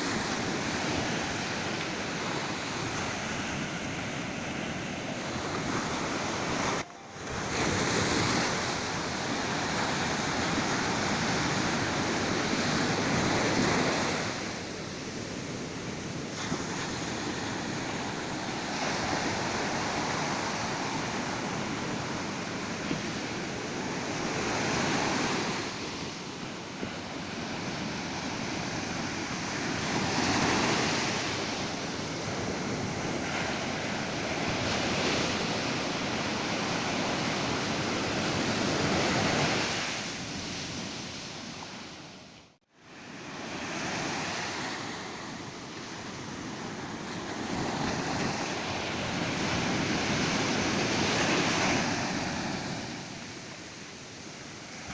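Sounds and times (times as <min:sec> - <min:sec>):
waves breaking on beach: 0:00.0 - 0:54.9.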